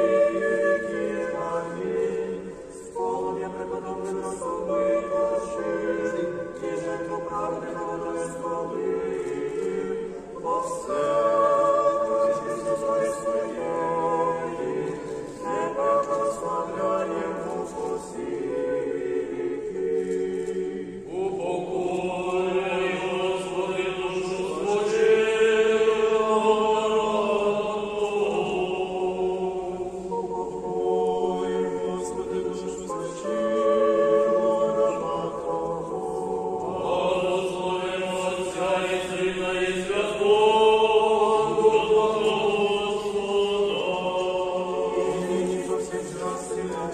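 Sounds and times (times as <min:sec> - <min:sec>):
choir singing unaccompanied chant: 0:00.0 - 0:46.9.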